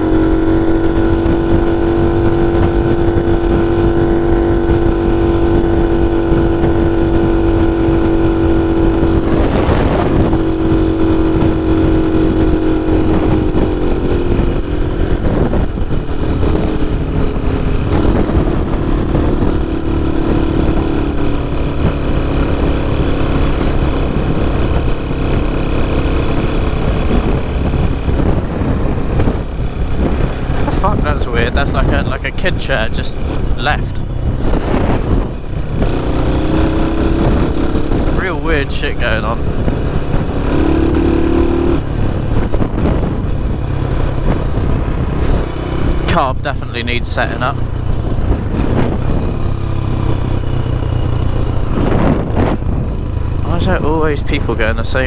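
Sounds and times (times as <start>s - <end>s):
small motorcycle engine running: 0.0s - 55.0s
wind rumbling over microphone: 0.0s - 55.0s.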